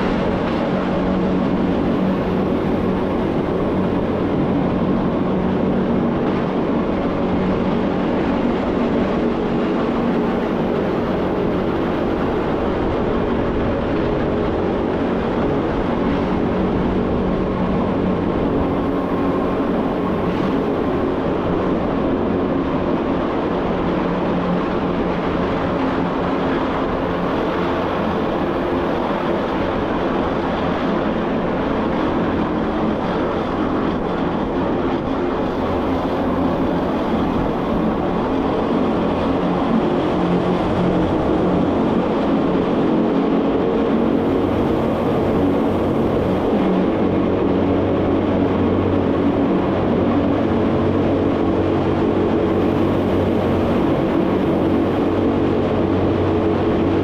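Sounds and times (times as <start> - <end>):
gearing hum: 0.0 - 57.0.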